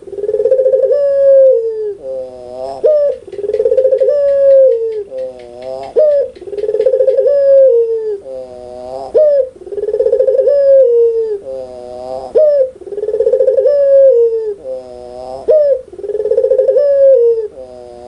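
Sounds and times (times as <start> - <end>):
dove laughing coo: 0.0 - 14.8, 15.4 - 18.0.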